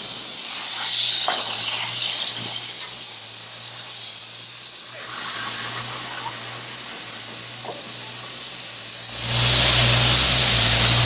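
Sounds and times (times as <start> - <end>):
loud rushing hiss: 0.0 - 11.0
machinery engine hum: 0.0 - 11.0.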